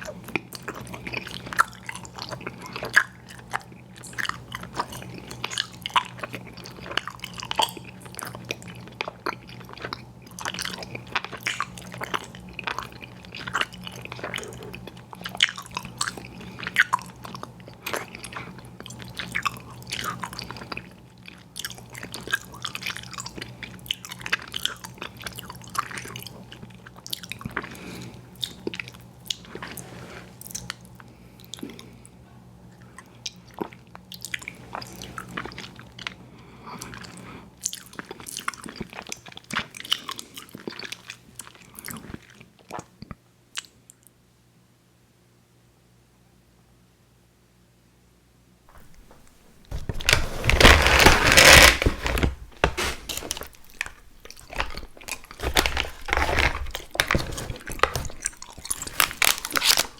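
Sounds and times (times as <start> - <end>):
wet mouth chewing candy: 0.0 - 32.0, 32.8 - 43.7, 48.7 - 59.9.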